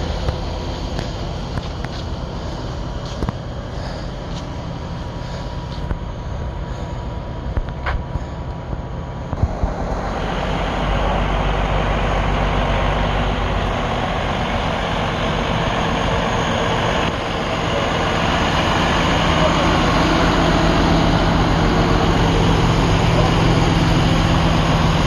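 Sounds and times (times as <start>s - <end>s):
truck diesel engine running: 0.0s - 25.0s.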